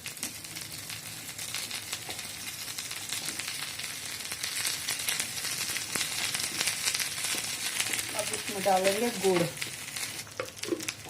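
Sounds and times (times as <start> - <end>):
paste sizzling in fat: 0.0 - 11.0.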